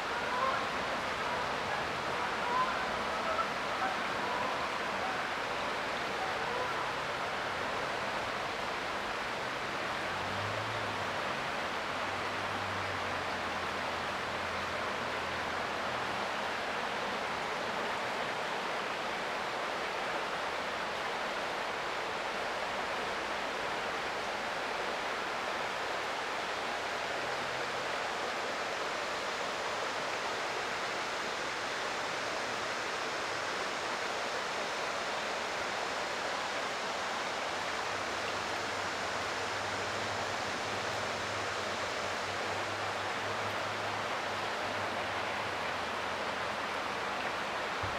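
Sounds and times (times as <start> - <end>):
creek water flowing over rocks: 0.0 - 47.9.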